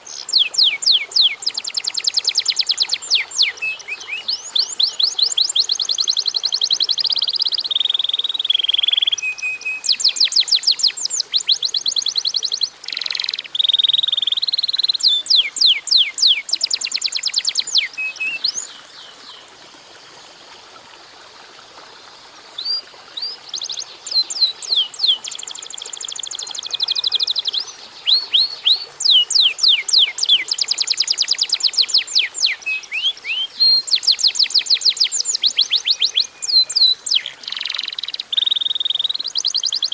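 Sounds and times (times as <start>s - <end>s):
canary singing trills: 0.0s - 19.1s, 22.6s - 39.9s.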